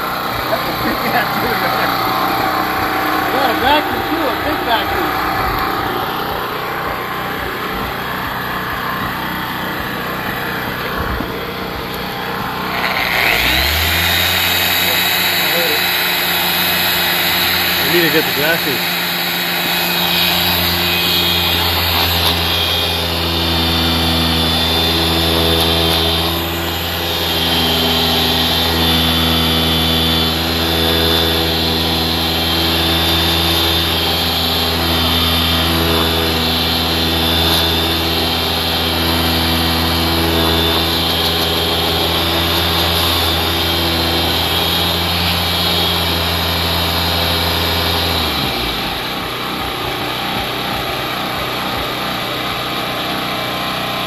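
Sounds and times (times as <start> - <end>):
motor-driven machine running: 0.0 - 54.0.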